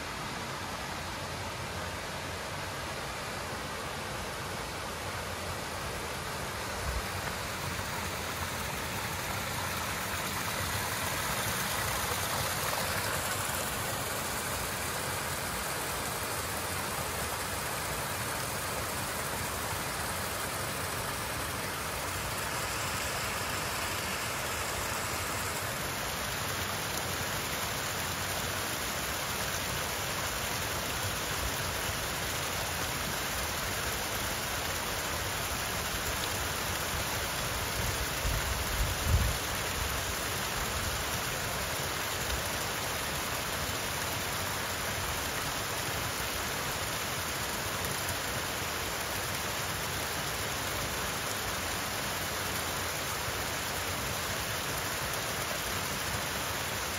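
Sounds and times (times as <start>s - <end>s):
waterfalls pouring into pool: 4.8s - 56.9s.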